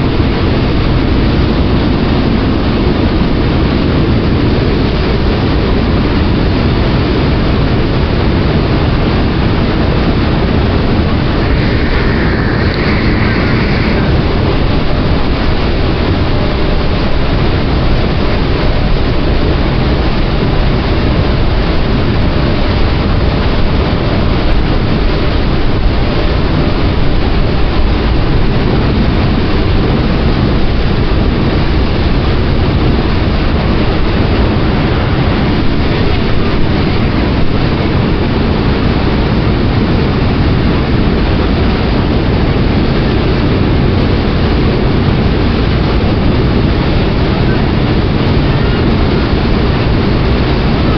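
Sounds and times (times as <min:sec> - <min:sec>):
boat engine rumble: 0:00.0 - 0:50.9
water rushing along hull: 0:00.0 - 0:50.9.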